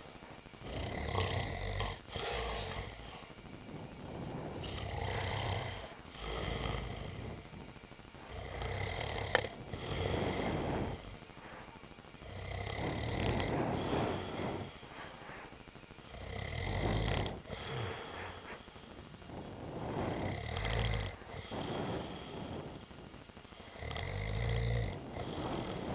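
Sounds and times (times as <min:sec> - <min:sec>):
man snoring: 0:00.0 - 0:25.9.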